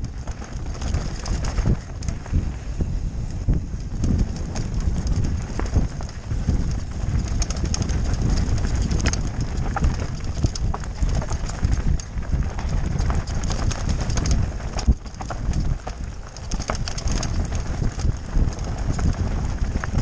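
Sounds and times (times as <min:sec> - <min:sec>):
bike chain and frame rattling: 0:00.0 - 0:20.0
tyres rumbling on dirt trail: 0:00.0 - 0:20.0
wind buffeting: 0:00.0 - 0:20.0.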